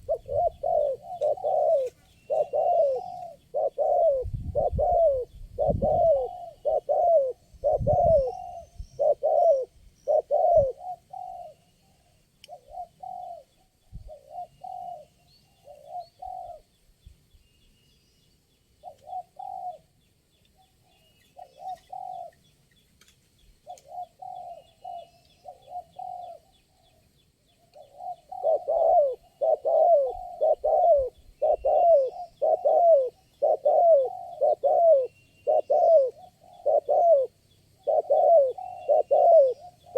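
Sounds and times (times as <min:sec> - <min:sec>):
doves cooing: 0:00.0 - 0:16.7, 0:18.8 - 0:19.9, 0:21.4 - 0:22.4, 0:23.6 - 0:26.9, 0:27.7 - 0:39.9
faint high bird chirps: 0:00.0 - 0:39.9.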